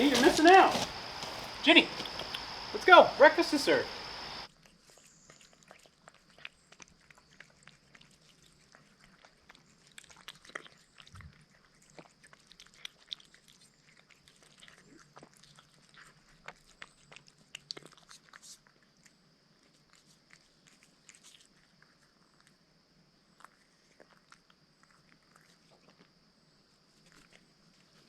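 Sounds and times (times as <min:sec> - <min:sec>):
cats crunching dry food: 0:00.0 - 0:22.5.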